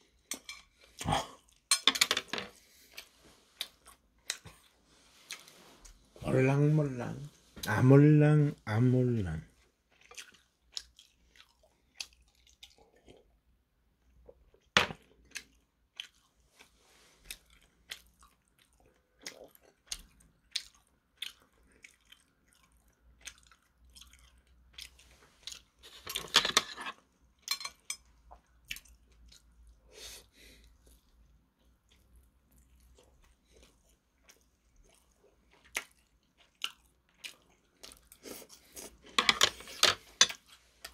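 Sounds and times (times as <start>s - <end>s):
person chewing dumplings: 2.5s - 6.1s, 9.6s - 26.3s, 26.9s - 40.9s.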